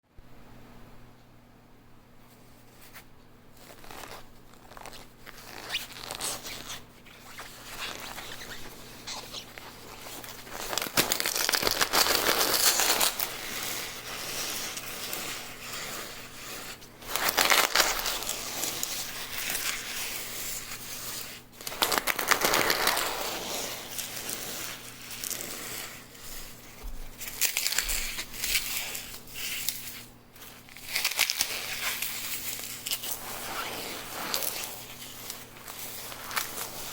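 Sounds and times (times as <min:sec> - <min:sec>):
floral foam crunching: 0:03.6 - 0:36.9.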